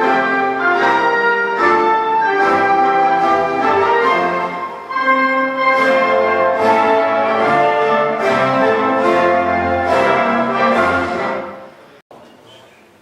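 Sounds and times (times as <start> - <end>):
orchestral music with brass and strings: 0.0 - 11.8.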